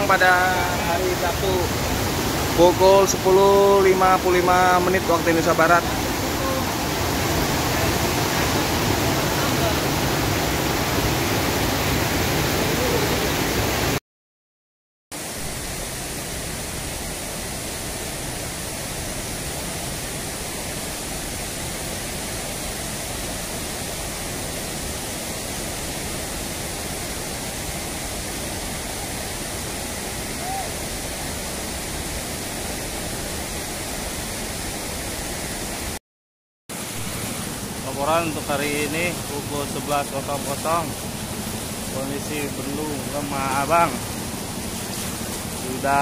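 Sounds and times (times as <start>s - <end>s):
floodwater rushing: 0.0s - 14.0s, 15.2s - 36.0s, 36.7s - 46.0s.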